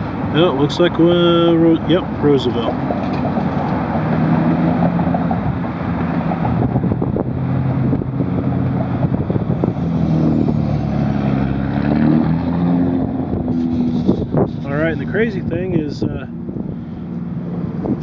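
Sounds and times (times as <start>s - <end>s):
motor engine droning: 0.9s - 18.0s.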